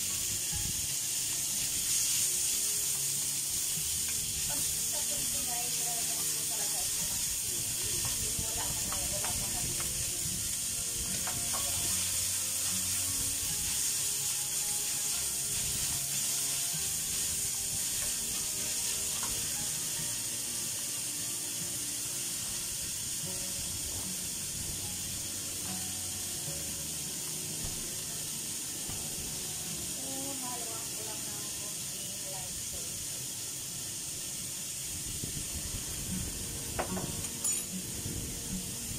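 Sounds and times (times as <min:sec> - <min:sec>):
vegetables sizzling in hot oil: 0:00.0 - 0:38.9.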